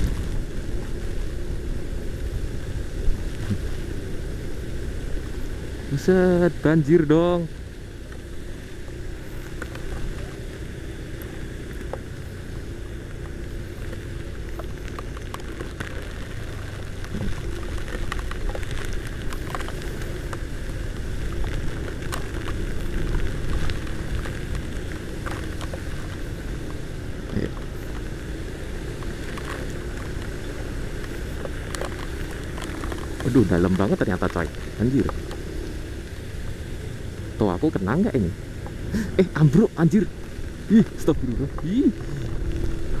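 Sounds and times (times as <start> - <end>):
raindrops ticking on camera: 0.0 - 43.0
scooter engine humming: 0.0 - 43.0
wind and water spray rumble: 0.0 - 43.0.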